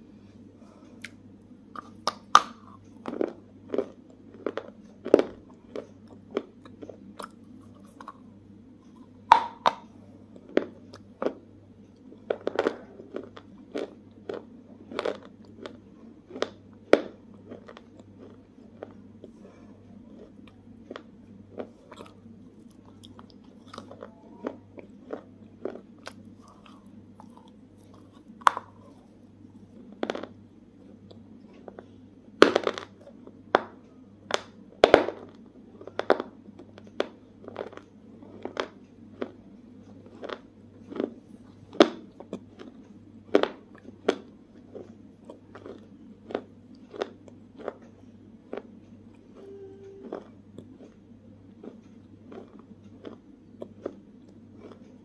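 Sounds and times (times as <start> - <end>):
person chewing crunchy food: 0.8 - 55.0.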